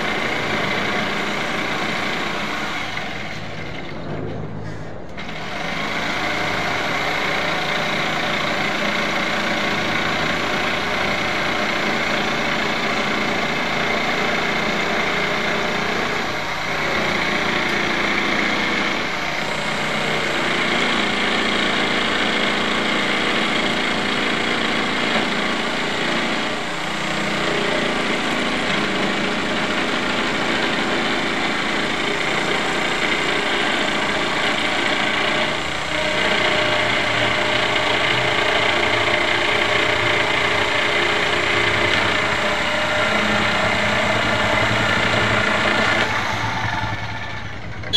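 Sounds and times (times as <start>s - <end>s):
electric jigsaw cutting wood: 0.0s - 3.9s, 5.2s - 47.9s.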